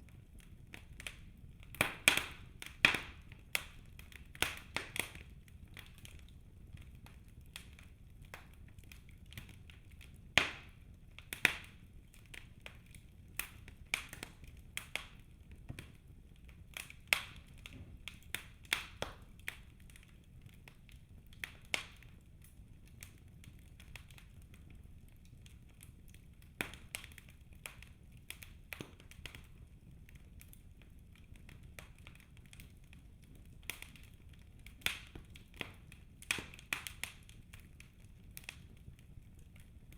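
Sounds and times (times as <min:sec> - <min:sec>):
low rumble of flames: 0:00.0 - 0:39.9
wood fire crackling and snapping: 0:00.0 - 0:39.9.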